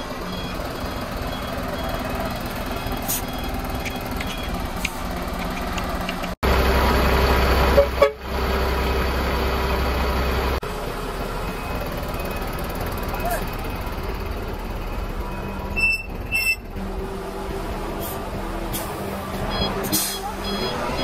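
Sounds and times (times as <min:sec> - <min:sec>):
concrete mixer truck running: 0:00.0 - 0:21.0.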